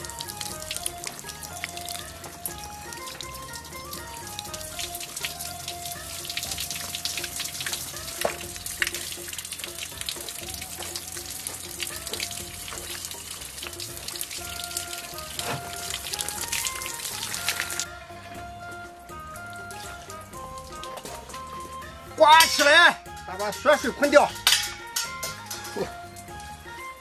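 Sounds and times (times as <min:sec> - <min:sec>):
background music: 0:00.0 - 0:27.0
water spattering: 0:00.0 - 0:27.0.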